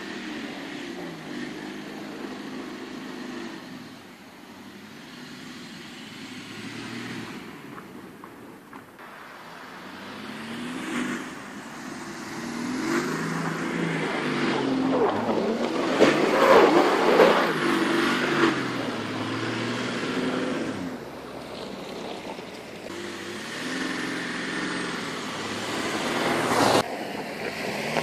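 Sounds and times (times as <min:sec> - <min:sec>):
diesel engine revving: 0:00.0 - 0:08.0, 0:09.0 - 0:28.0.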